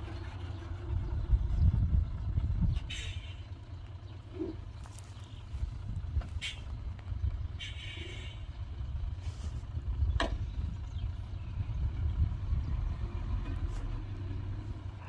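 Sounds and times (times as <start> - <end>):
heavy diesel machinery rumbling: 0.0 - 15.0.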